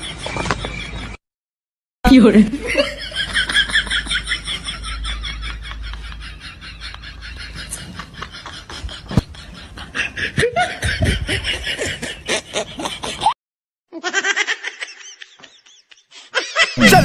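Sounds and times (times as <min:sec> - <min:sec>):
people laughing: 0:02.4 - 0:13.4, 0:14.0 - 0:17.0.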